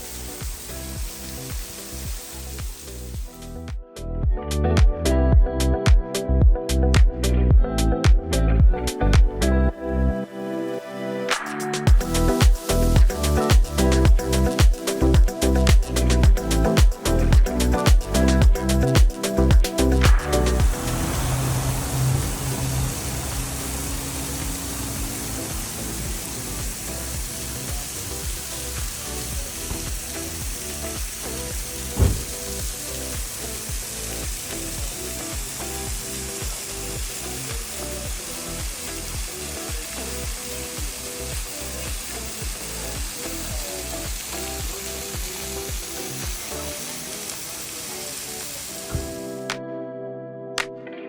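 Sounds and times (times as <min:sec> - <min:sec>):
waterfall hiss: 0:00.0 - 0:03.6, 0:10.3 - 0:49.4
background music: 0:00.0 - 0:51.0.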